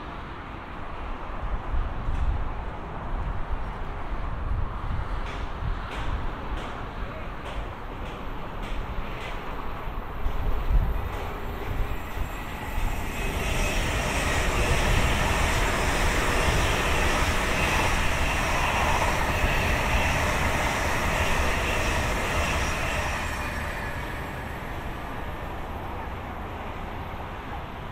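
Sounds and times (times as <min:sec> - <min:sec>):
high-speed train passing: 0:00.0 - 0:27.9.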